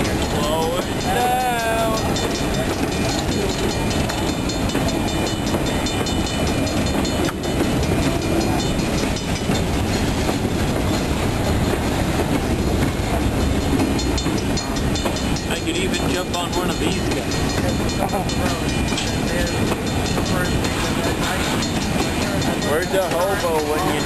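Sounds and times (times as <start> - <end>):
freight train wheels clattering: 0.0 - 24.0.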